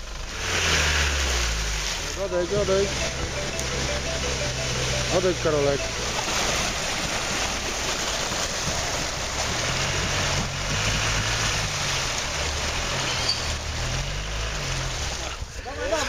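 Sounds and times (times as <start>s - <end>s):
car engine at low revs: 0.0s - 4.1s, 5.2s - 16.0s
water splashing and sloshing: 0.4s - 16.0s.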